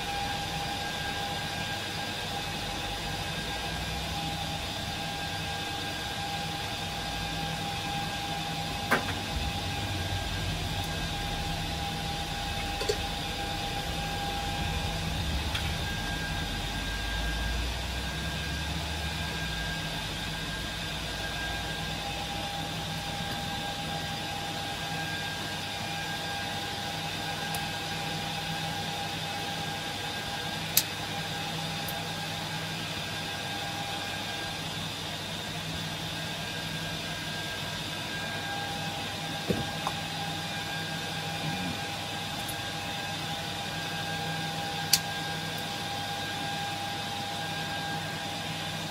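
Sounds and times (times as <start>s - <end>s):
server cooling fans whining: 0.0s - 48.9s.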